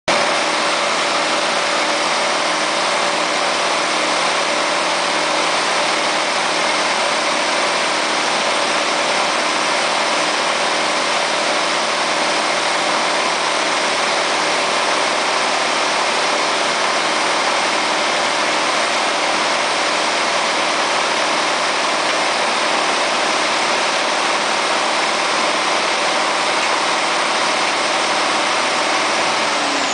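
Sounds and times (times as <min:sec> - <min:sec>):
truck engine running: 0:00.1 - 0:29.9.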